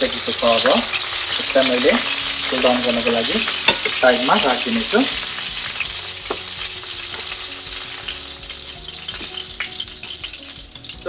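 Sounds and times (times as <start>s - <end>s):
hot oil sizzling in a frying pan: 0.0s - 11.0s.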